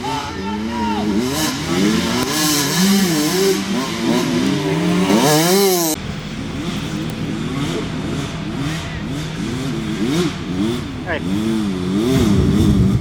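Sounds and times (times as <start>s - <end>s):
racing engines revving: 0.0s - 13.0s.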